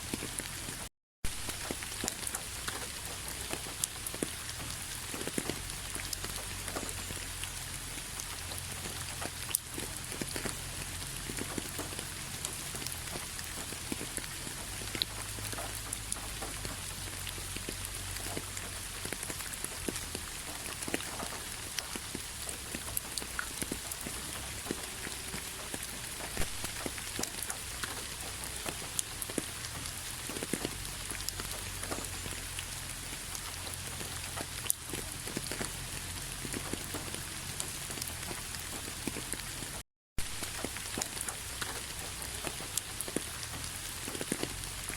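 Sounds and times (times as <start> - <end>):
raindrop ticks: 0.0 - 44.9
steady rainfall: 0.0 - 44.9.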